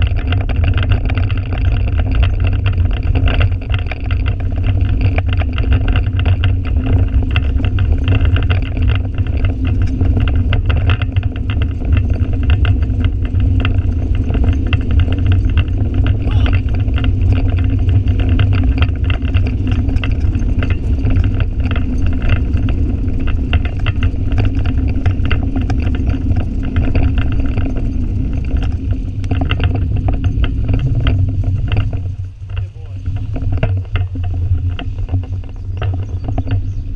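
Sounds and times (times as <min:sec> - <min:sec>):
bike rattles and ticks: 0:00.0 - 0:36.9
bike tyres on trail: 0:00.0 - 0:36.9
wind buffeting microphone: 0:00.0 - 0:36.9.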